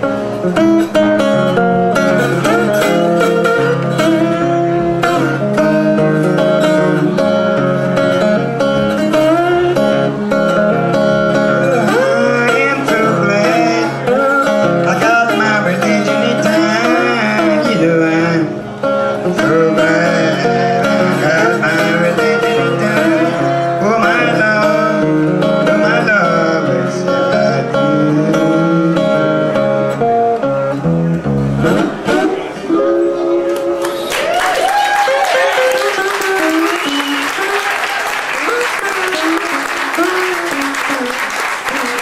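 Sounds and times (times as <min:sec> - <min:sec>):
sliding bending guitar melody: 0:00.0 - 0:34.2, 0:35.6 - 0:42.0
acoustic guitar country blues: 0:00.0 - 0:42.0.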